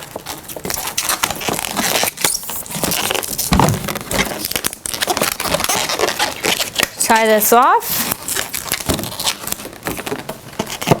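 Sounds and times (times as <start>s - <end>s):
rubber balloons rubbing and crackling: 0.0s - 11.0s.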